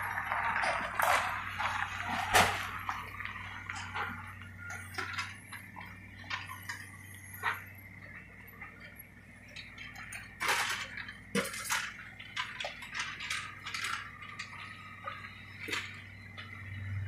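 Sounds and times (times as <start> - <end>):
debris crashing and clattering: 0.0 - 9.0, 9.6 - 16.5
excavator diesel engine hum: 0.0 - 17.0.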